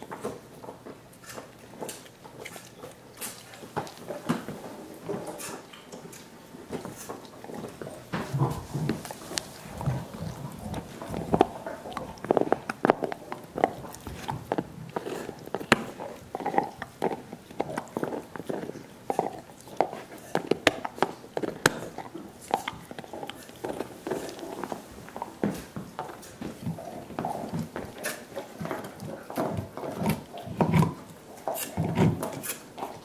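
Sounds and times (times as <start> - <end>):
dogs slurping and smacking: 0.0 - 33.0
teeth clicking on bone: 0.0 - 33.0.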